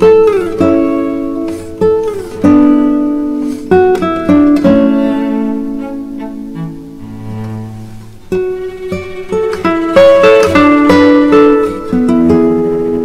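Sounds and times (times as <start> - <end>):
plucked guitar notes: 0.0 - 13.0.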